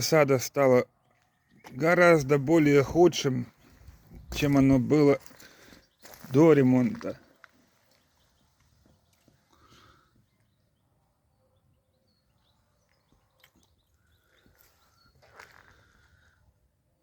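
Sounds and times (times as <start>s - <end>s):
distant birds chirping: 0.0s - 16.5s.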